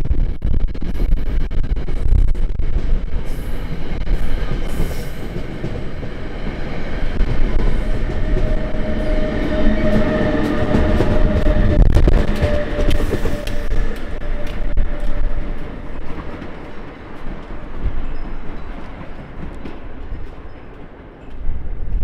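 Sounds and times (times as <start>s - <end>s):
electric locomotive whine: 0.9s - 22.0s
train cars rumbling past: 2.6s - 22.0s.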